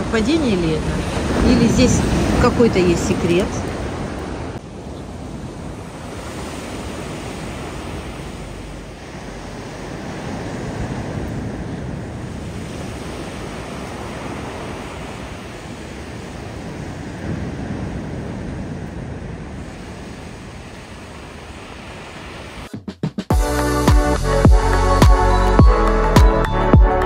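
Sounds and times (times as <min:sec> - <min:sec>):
wind buffeting microphone: 0:00.0 - 0:22.7
sea surf: 0:00.0 - 0:22.8.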